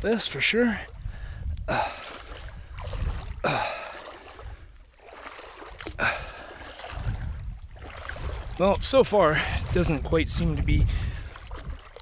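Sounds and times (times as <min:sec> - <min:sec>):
footsteps splashing through water: 0:01.7 - 0:12.0.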